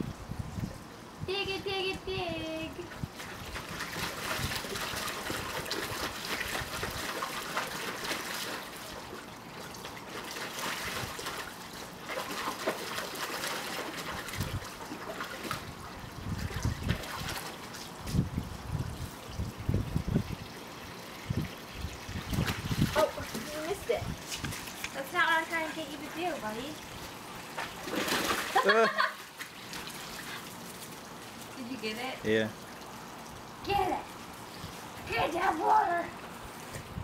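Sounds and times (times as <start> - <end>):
water splashing and sloshing: 2.8 - 37.0.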